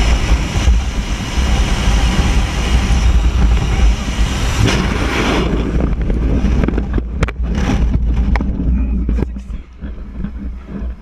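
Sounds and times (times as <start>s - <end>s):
heavy low rumble: 0.0s - 11.0s
wind buffeting microphone: 0.0s - 11.0s.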